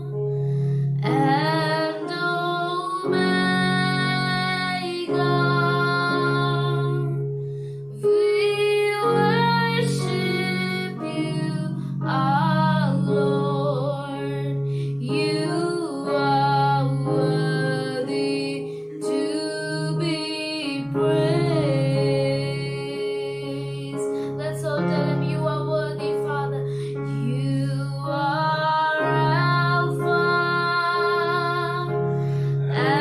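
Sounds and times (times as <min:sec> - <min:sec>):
held instrumental chords: 0:00.0 - 0:33.0
woman singing slow song: 0:00.8 - 0:07.4, 0:08.0 - 0:33.0.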